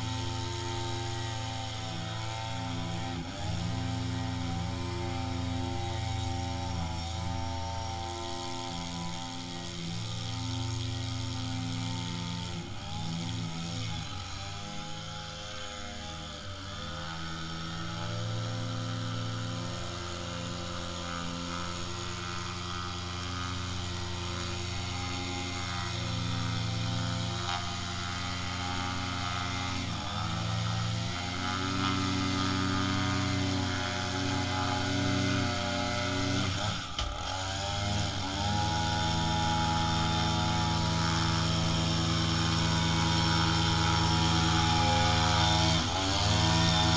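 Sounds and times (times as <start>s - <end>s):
string trimmer engine: 0.0s - 46.9s.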